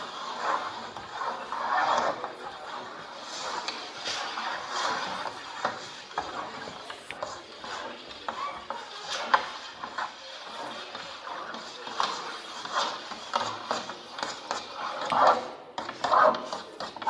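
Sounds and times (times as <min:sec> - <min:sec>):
scratching and scraping on paper: 0:00.0 - 0:17.0.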